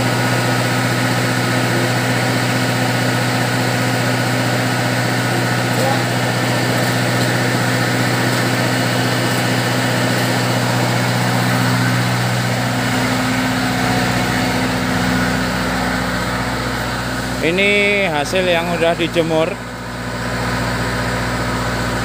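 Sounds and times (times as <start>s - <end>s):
machine engine drone: 0.0s - 22.0s.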